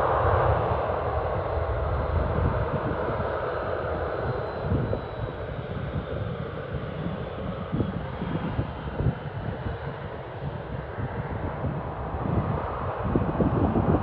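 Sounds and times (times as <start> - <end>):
faint high engine whine: 0.0 - 14.0
jet engines rumbling: 0.0 - 14.0.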